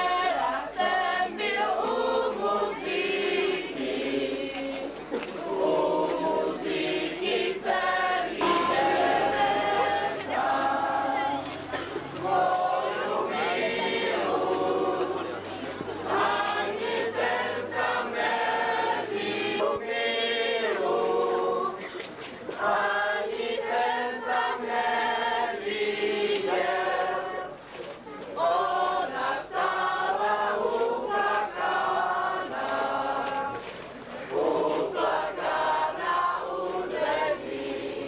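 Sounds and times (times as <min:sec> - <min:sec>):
group singing folk song: 0:00.0 - 0:38.0.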